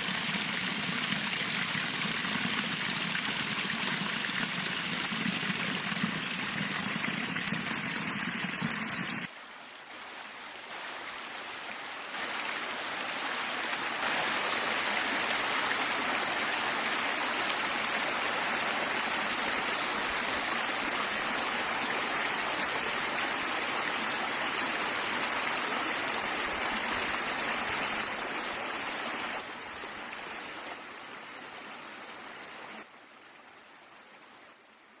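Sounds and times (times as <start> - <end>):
stream running water: 0.0 - 35.0.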